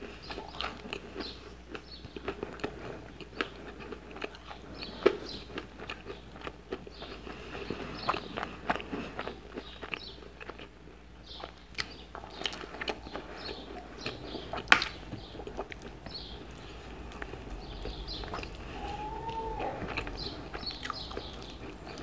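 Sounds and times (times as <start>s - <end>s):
wet chewing and lip smacks: 0.2s - 22.0s.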